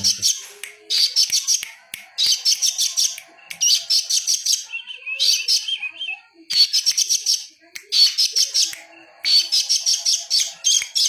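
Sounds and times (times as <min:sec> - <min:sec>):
songbird chattering chirps: 0:00.0 - 0:11.0.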